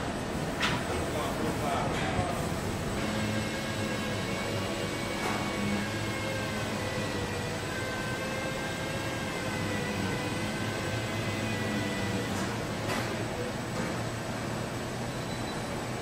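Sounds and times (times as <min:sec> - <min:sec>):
ventilation and machinery hum: 0:00.0 - 0:16.0.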